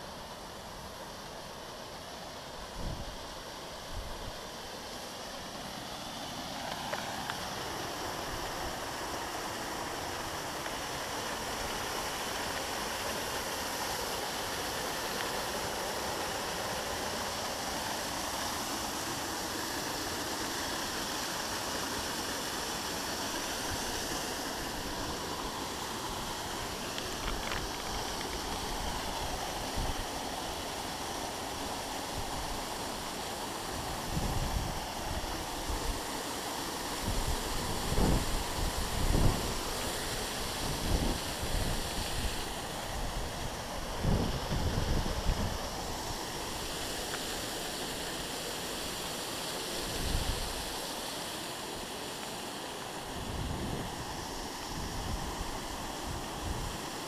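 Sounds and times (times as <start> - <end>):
waterfall rushing onto boulders: 0.0 - 57.0.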